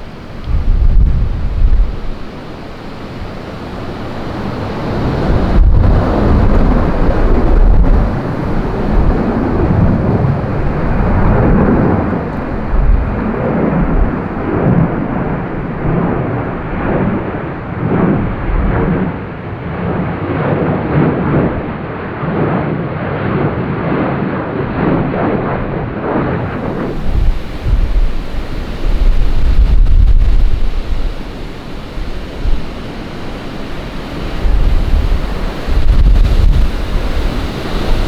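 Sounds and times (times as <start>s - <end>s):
wind buffeting microphone: 0.0s - 22.7s, 24.7s - 38.0s
jet engines rumbling: 0.0s - 38.0s.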